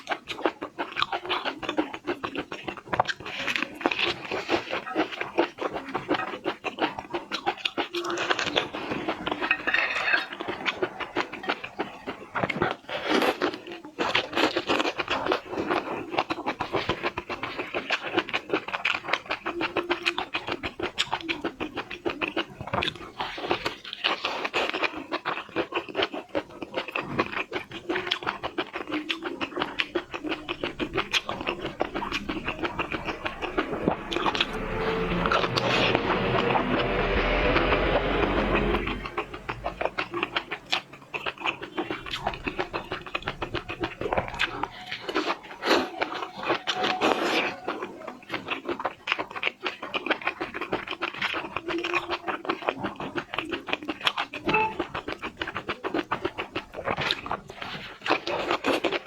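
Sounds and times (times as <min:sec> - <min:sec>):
person chewing: 0:00.0 - 0:38.2, 0:39.4 - 0:59.0.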